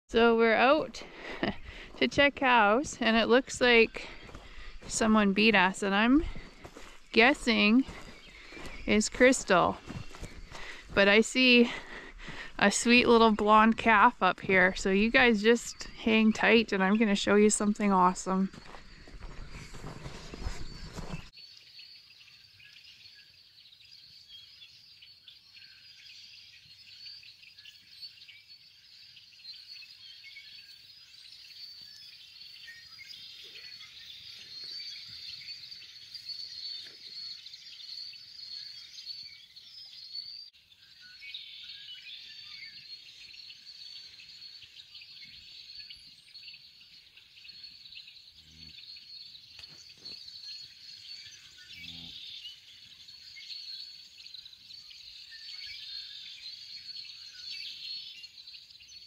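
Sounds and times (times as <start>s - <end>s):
flock of birds chirping: 0.1s - 59.0s.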